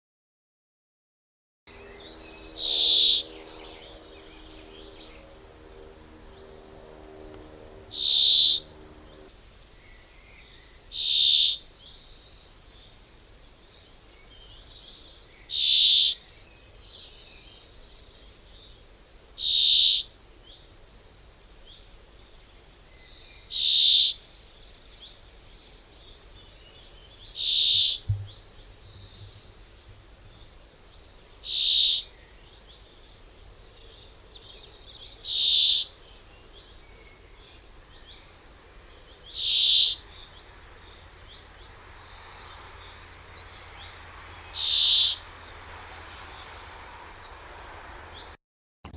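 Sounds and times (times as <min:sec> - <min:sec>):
faint birds chirping: 0:01.7 - 0:48.4.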